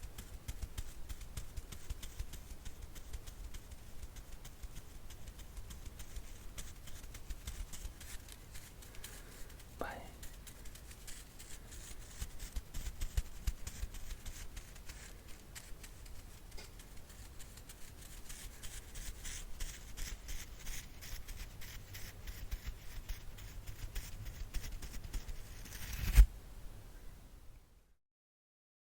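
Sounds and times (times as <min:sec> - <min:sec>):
brush bristles scratching: 0:00.0 - 0:26.3.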